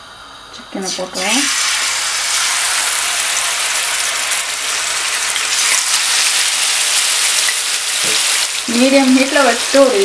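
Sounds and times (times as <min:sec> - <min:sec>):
chicken sizzling in hot oil: 0:00.9 - 0:10.0.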